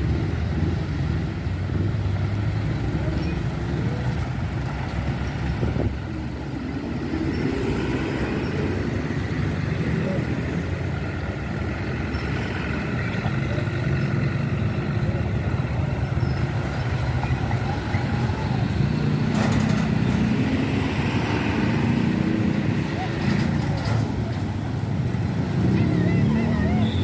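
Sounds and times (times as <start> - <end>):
diesel engine hum: 0.0 - 27.0
heavy road traffic passing: 0.0 - 27.0.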